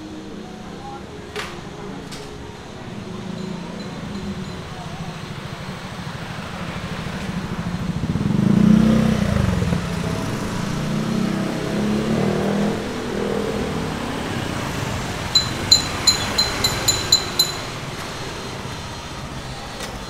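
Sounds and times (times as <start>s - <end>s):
car passing: 0.0s - 20.0s
motor scooters passing: 0.0s - 20.0s.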